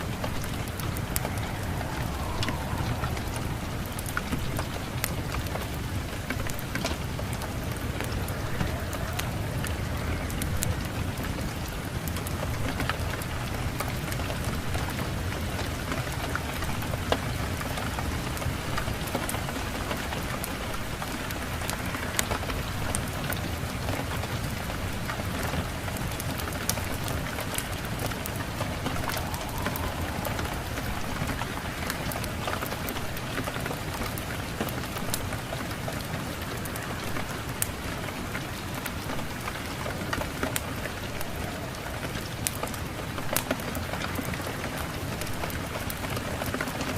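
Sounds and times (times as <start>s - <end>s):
steady rain: 0.0s - 46.9s
wood fire crackling: 0.0s - 46.9s.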